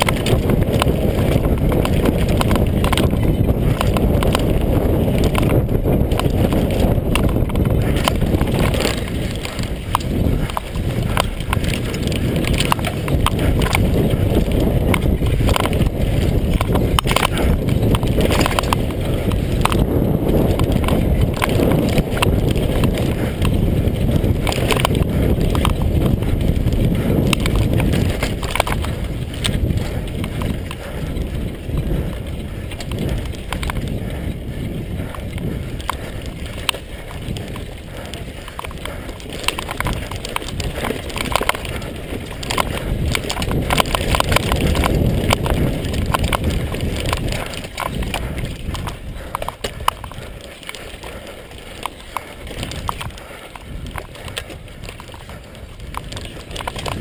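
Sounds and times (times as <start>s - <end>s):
bike chain and frame rattling: 0.0s - 57.0s
wind and tyres on dirt rumble: 0.0s - 57.0s.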